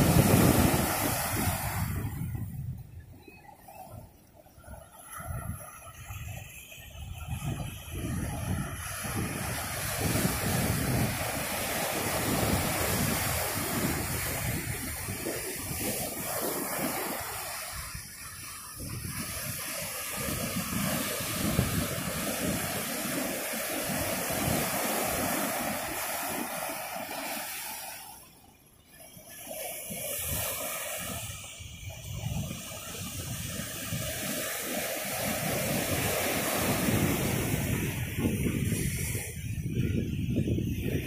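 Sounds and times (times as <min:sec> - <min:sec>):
ocean surf breaking: 0:00.0 - 0:02.8, 0:05.3 - 0:28.3, 0:29.1 - 0:41.0
wind rumbling on microphone: 0:00.0 - 0:27.8, 0:28.9 - 0:41.0.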